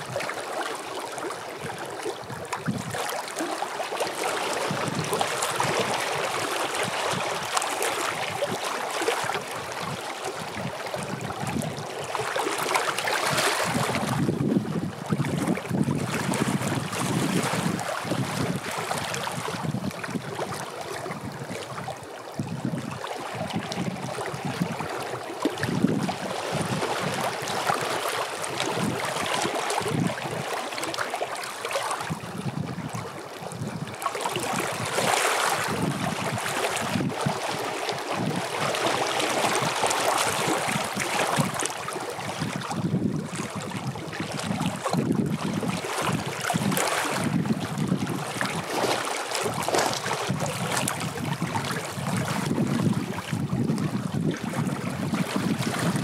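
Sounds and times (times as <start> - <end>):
waves lapping against rocks: 0.0 - 56.0
wind buffeting microphone: 4.6 - 8.6, 13.2 - 30.5, 32.0 - 56.0.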